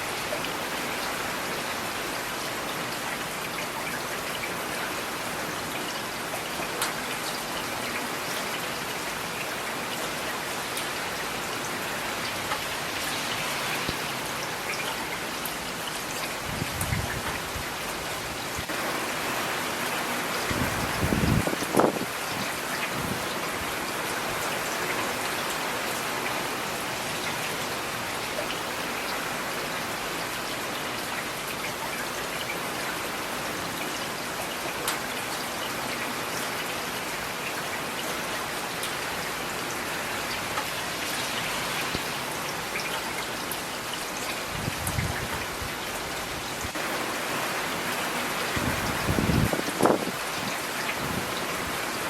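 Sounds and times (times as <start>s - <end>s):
rain pattering on surfaces: 0.0s - 52.0s.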